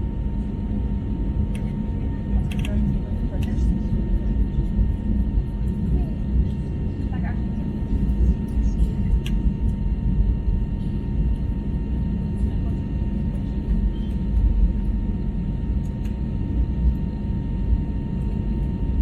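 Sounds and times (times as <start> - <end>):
engine and airflow rumble: 0.0 - 19.0.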